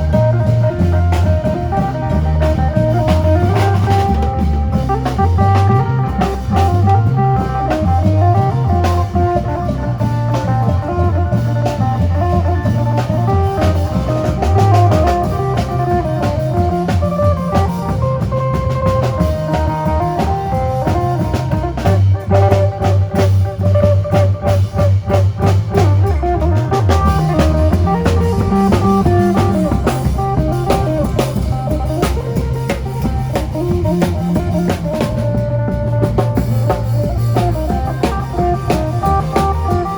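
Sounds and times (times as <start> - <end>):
bass line: 0.0 - 39.9
drum kit beat: 0.0 - 39.9.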